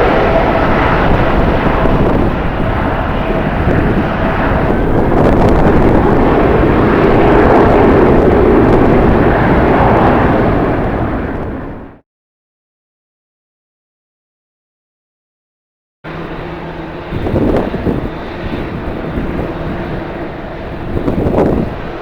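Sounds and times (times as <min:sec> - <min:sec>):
jet engines rushing: 0:00.0 - 0:12.0, 0:16.1 - 0:22.0.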